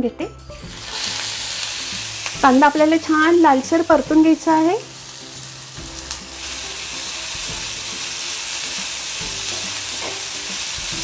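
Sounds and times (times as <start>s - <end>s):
onion sizzling in hot oil: 0.4s - 11.0s.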